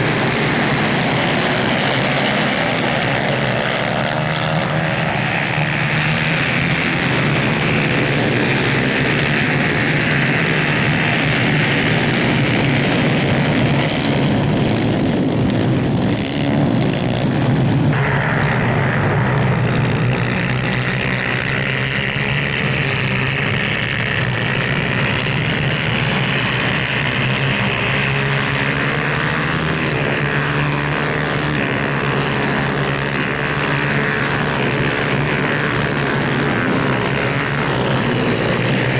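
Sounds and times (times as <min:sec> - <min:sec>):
racing kart engines: 0:00.0 - 0:38.9.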